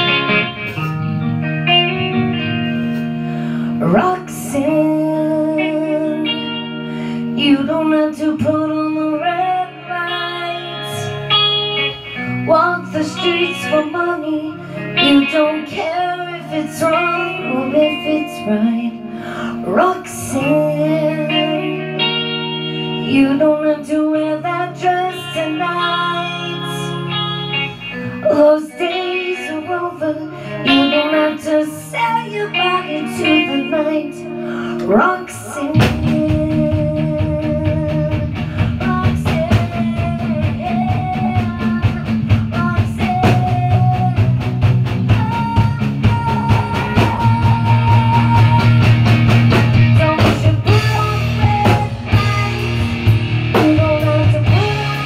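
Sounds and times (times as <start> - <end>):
band playing live: 0.0 - 55.0
guitar: 0.0 - 55.0
person singing: 1.8 - 55.0.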